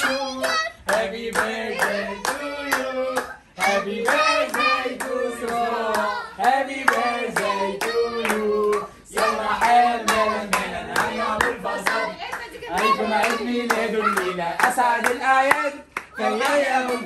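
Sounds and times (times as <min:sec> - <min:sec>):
group clapping in rhythm: 0:00.0 - 0:17.0
voices singing along: 0:00.0 - 0:17.0.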